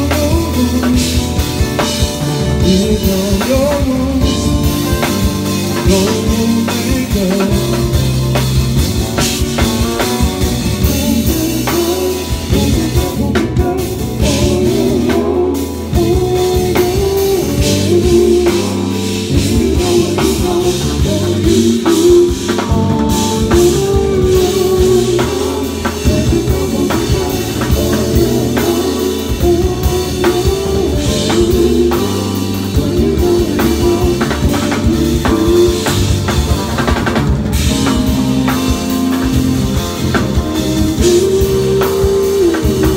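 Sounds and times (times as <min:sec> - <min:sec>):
drum kit with cymbals: 0:00.0 - 0:42.9
electric bass melodic line: 0:00.0 - 0:42.9
keyboards: 0:00.0 - 0:42.9.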